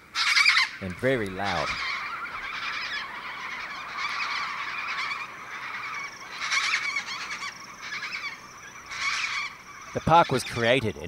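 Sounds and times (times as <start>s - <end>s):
cockatoos screeching: 0.0s - 10.7s.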